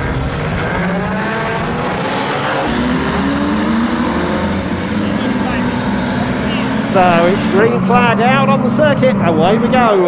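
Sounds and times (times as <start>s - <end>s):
racing car engines revving: 0.0s - 10.0s.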